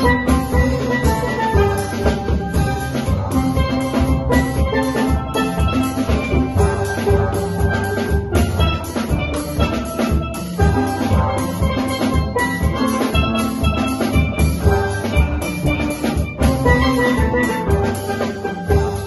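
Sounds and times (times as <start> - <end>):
drum kit beat: 0.0 - 19.0
steelpans playing melody: 0.0 - 19.0.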